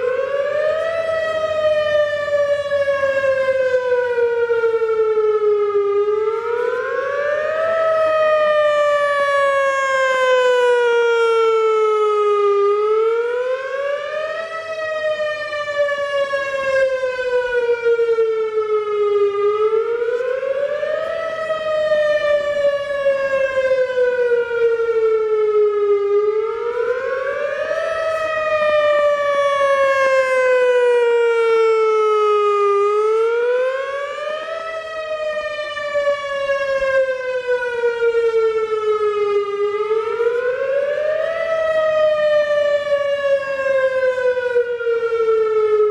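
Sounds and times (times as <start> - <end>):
electronic tornado siren: 0.0 - 45.9.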